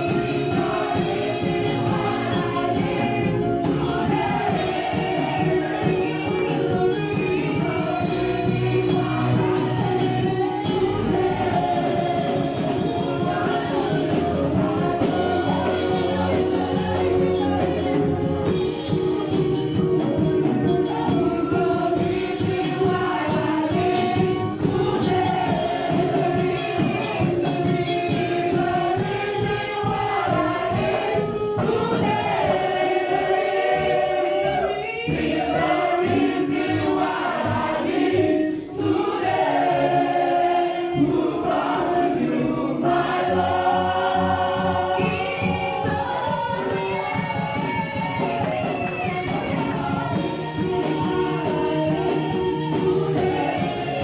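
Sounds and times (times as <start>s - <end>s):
percussion beat: 0.0s - 39.7s, 43.0s - 54.0s
choir singing a gospel song: 0.0s - 54.0s.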